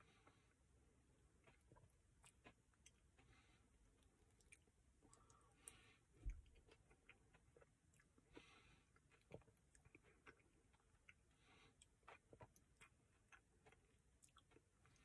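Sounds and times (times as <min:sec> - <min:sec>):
mouth chewing clicks and smacks: 0:01.4 - 0:03.4, 0:04.0 - 0:15.0.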